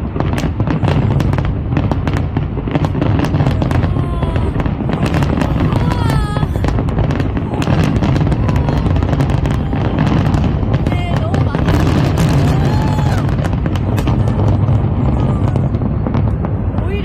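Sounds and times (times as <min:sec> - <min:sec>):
fireworks popping and crackling: 0:00.0 - 0:17.0
low rumble: 0:00.0 - 0:17.0
crowd voices: 0:02.9 - 0:17.0.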